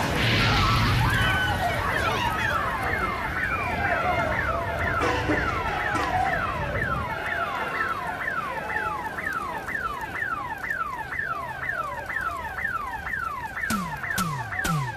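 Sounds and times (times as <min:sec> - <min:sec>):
car alarm whooping: 0:00.2 - 0:14.9
second car alarm: 0:00.4 - 0:14.9.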